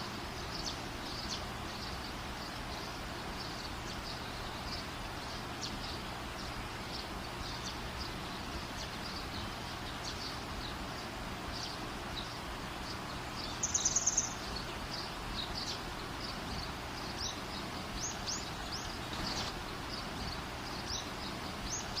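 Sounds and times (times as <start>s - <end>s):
loud rapid bird trill: 0.0s - 22.0s
small birds chirping: 0.0s - 22.0s
steady background hiss: 0.0s - 22.0s.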